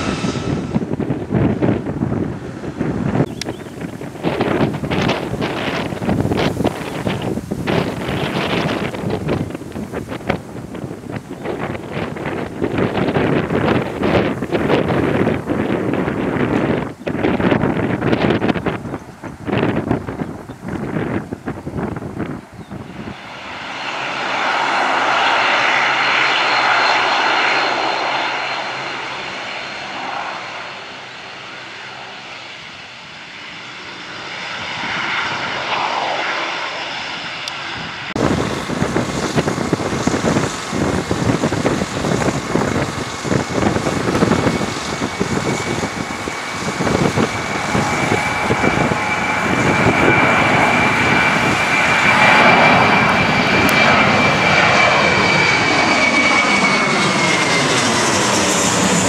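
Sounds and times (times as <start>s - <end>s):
high jet whine: 0.0s - 59.0s
jet airliner rumble: 0.0s - 59.0s
turboprop engines and propellers: 0.0s - 59.0s.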